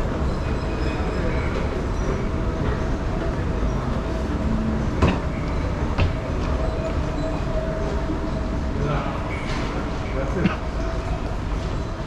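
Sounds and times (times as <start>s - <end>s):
low rumble of busy walkway: 0.0s - 12.0s.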